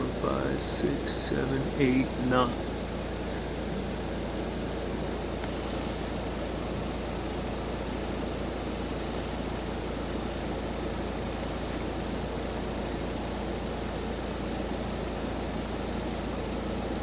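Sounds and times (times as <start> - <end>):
fan rushing air: 0.0 - 17.0
low electrical hum: 0.0 - 17.0.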